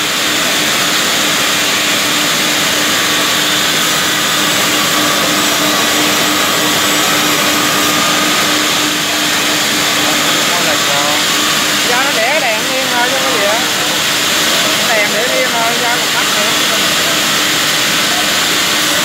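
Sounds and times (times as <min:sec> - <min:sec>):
band sawmill running: 0:00.0 - 0:19.0.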